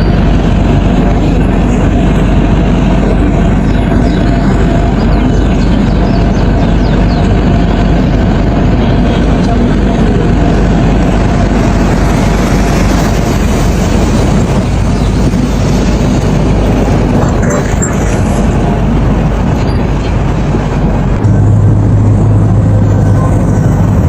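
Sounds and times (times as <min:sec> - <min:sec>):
excavator diesel engine running: 0:00.0 - 0:24.0
loud mechanical noise: 0:00.0 - 0:24.0.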